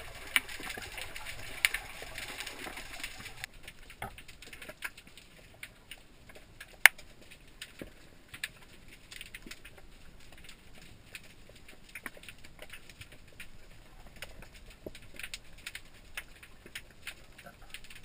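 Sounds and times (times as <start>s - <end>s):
underwater crackling clicks: 0.0s - 18.0s.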